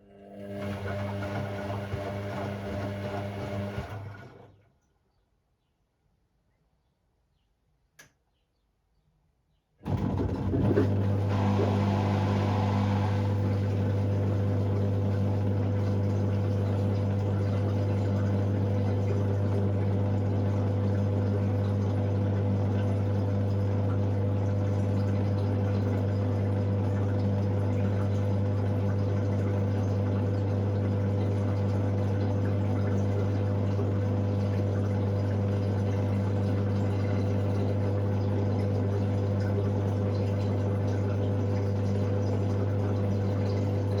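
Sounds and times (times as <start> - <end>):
drain pump humming: 0.0 - 4.6, 9.8 - 44.0
water rushing through pump: 0.0 - 4.6, 9.8 - 44.0.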